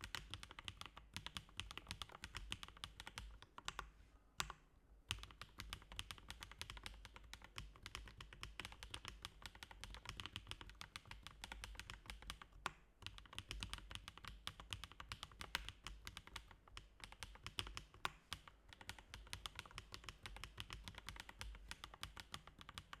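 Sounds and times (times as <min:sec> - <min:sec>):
fast typing on mechanical keyboard: 0:00.0 - 0:03.8, 0:05.1 - 0:23.0.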